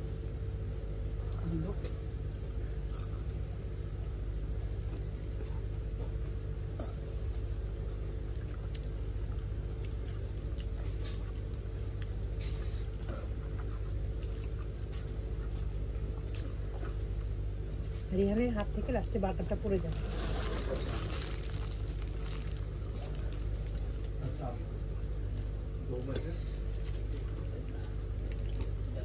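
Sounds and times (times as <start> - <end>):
steady low hum: 0.0 - 29.0
people chewing food: 0.1 - 29.0.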